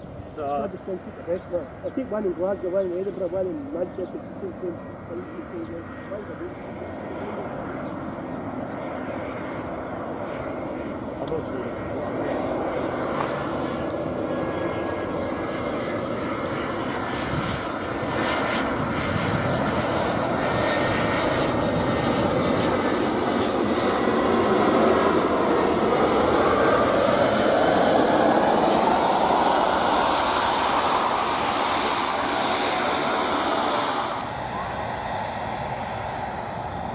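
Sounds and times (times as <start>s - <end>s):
jet engines rushing: 0.0s - 36.9s.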